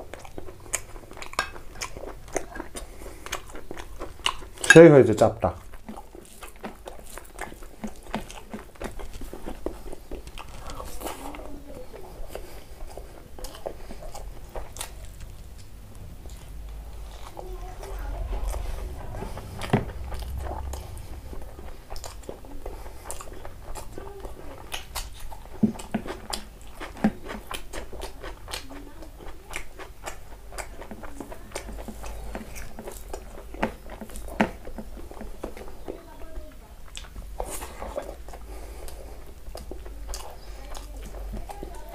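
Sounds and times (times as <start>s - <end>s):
chewing with wet mouth clicks: 0.0s - 41.9s.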